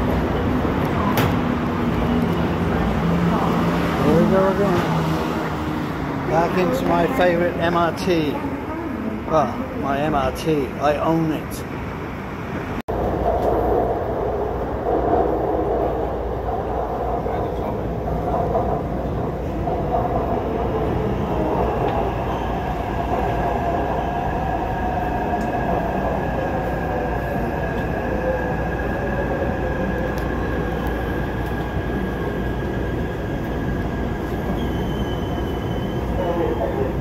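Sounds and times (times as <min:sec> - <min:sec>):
metro train rumbling: 0:00.0 - 0:37.0.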